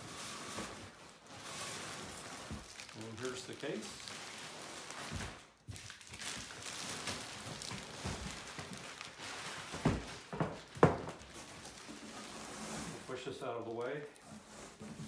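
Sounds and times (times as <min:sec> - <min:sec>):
plastic and paper rustling: 0:00.0 - 0:15.0.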